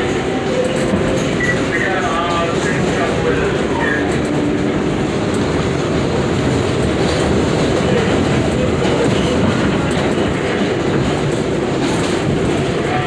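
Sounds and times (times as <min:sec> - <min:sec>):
subway train wheels on rails: 0:00.0 - 0:13.0.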